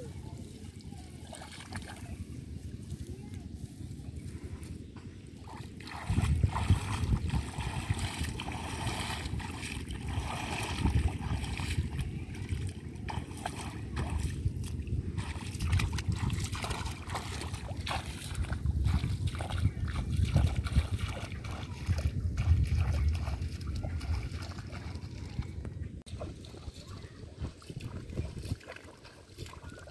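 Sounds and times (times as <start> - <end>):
steady low rumble: 0.0 - 29.6
muddy water splashing: 0.0 - 29.9.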